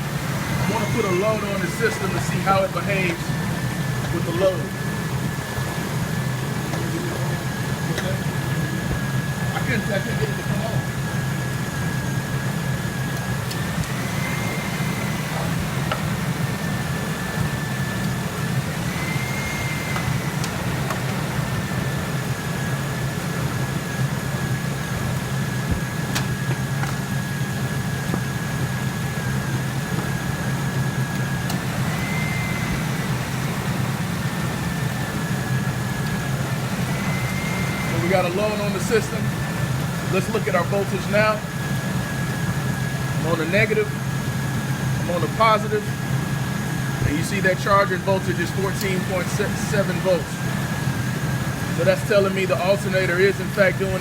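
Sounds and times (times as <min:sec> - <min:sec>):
thin high whine: 0:00.0 - 0:26.5, 0:28.8 - 0:54.0
truck engine idling: 0:00.0 - 0:54.0.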